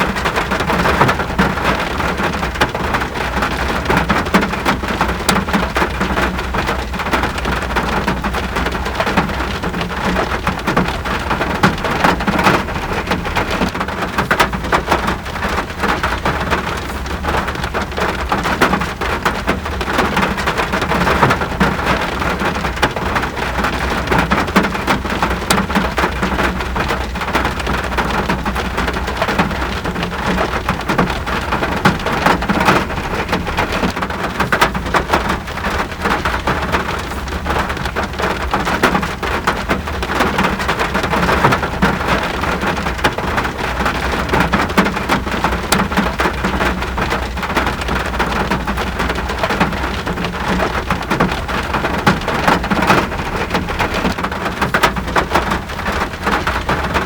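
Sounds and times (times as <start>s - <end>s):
rain patter on surface: 0.0s - 57.0s.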